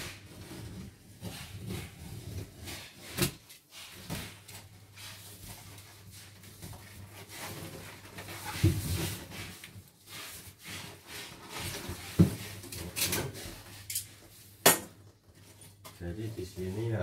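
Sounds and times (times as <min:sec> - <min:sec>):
plastic and cardboard rustling: 0:00.0 - 0:17.0.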